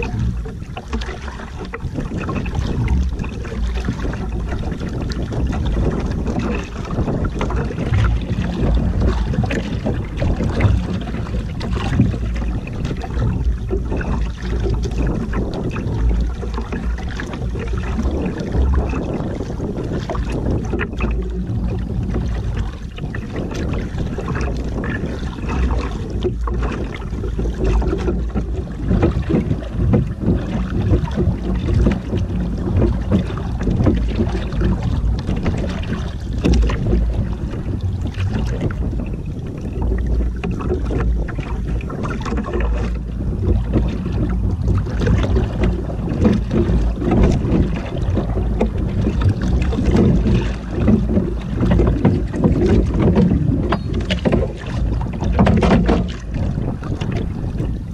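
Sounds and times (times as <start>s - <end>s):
water splashing against hull: 0.0s - 57.9s
wind buffeting microphone: 0.0s - 57.9s.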